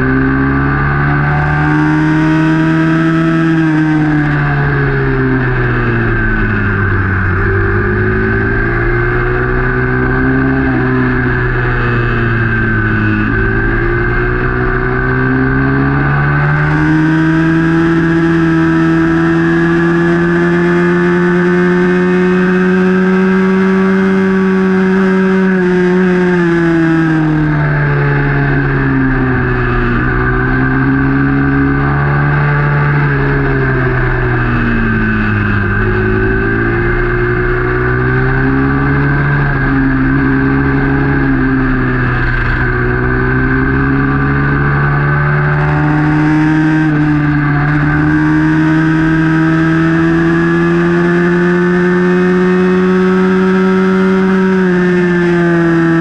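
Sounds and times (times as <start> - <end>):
racing motorcycle engine: 0.0 - 56.0.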